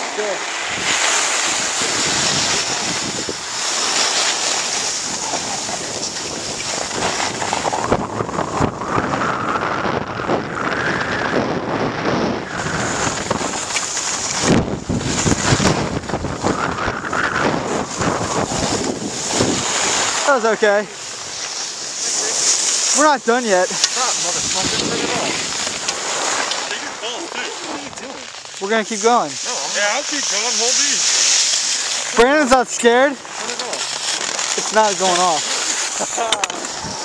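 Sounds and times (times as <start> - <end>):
skis scraping over snow: 0.0 - 37.0
wind buffeting microphone: 0.2 - 28.5, 34.7 - 37.0.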